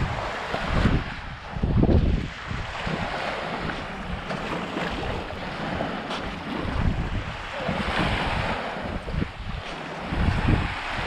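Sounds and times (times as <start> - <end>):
small waves washing on sand: 0.0 - 11.0
wind buffeting microphone: 0.0 - 11.0.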